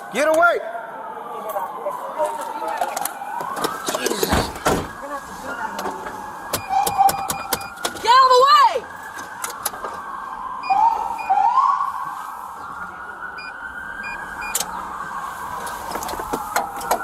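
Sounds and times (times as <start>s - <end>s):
police siren wailing: 0.0s - 17.0s
siren whoops: 0.0s - 17.0s.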